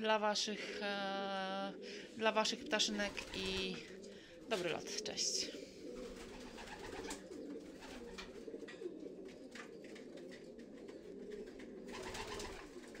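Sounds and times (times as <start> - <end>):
pigeons cooing: 0.0 - 13.0
birds rustling: 0.7 - 13.0.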